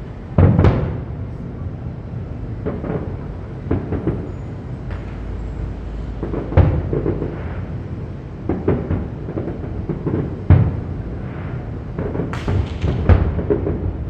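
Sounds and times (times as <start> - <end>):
fireworks booming: 0.0 - 14.0
small fireworks pops: 2.6 - 14.0.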